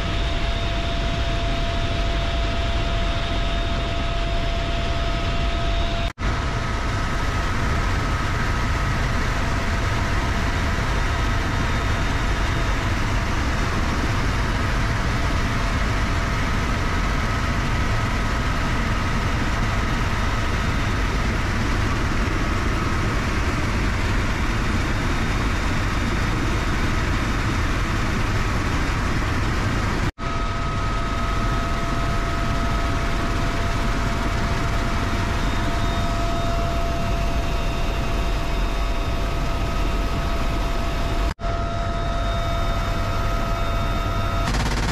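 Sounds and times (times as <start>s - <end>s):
helicopter engine whine: 0.0s - 44.9s
rotor and wind rush: 0.0s - 44.9s.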